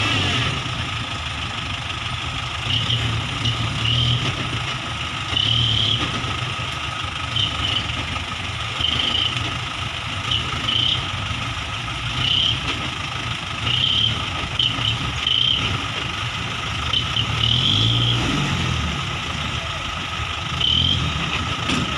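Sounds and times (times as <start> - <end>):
truck engine idling: 0.0 - 21.9.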